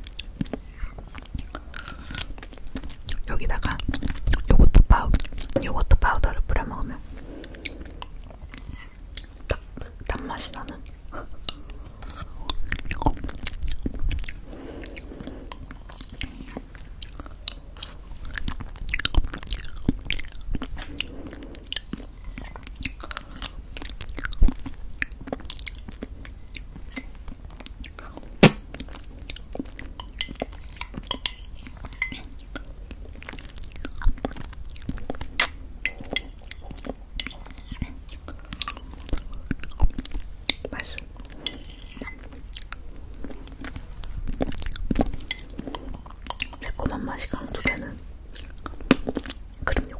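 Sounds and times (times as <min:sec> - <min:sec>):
wet chewing with crunching: 0:00.0 - 0:05.7, 0:07.0 - 0:49.9.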